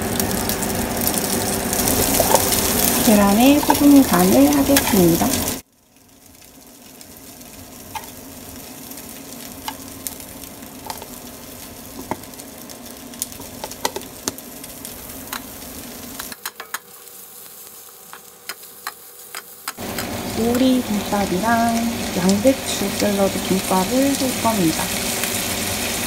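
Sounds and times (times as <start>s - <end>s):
food sizzling in grill pan: 0.0s - 26.0s.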